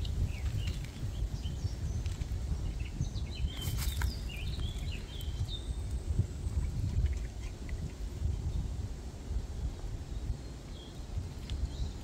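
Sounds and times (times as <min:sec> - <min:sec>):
low rumble on microphone: 0:00.0 - 0:12.0
small birds chirping: 0:00.0 - 0:12.0.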